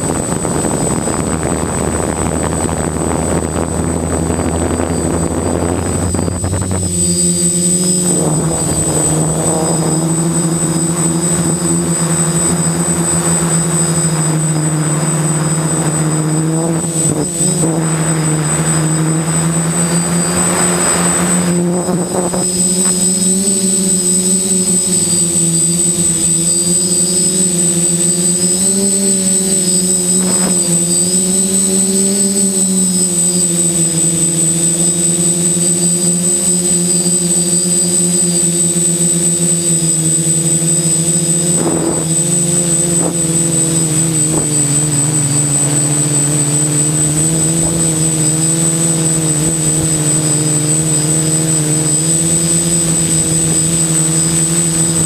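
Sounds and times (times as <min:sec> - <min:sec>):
drone propellers buzzing: 0:00.0 - 0:55.0
high whine: 0:00.0 - 0:55.0.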